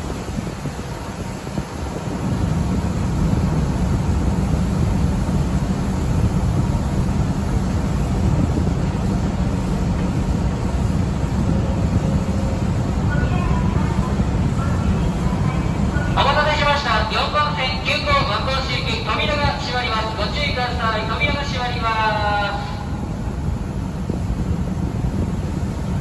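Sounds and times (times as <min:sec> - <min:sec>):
idling train rumble and hum: 0:00.0 - 0:26.0.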